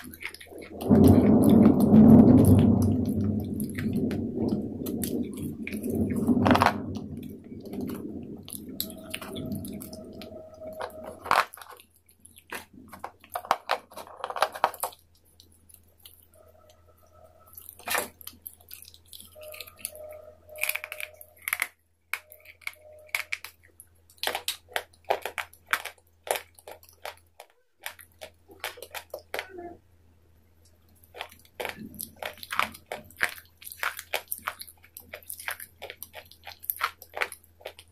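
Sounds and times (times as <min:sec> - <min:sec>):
crunching and chewing: 0:00.0 - 0:29.8, 0:30.6 - 0:37.9.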